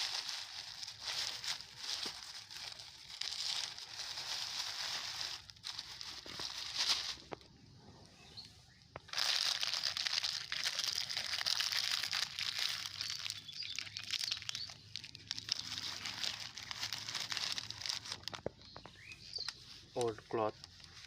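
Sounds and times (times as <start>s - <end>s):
plastic bag crinkling: 0.0s - 7.5s, 9.0s - 18.7s.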